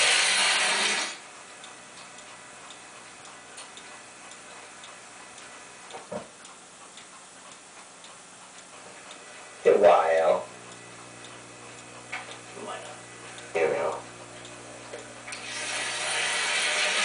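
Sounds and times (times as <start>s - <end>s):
clock ticking: 1.5s - 15.2s.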